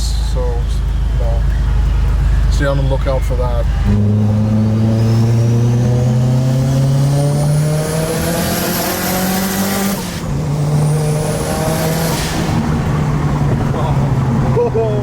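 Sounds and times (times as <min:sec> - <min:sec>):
car engine accelerating: 0:00.0 - 0:15.0
high turbo whine: 0:00.0 - 0:15.0.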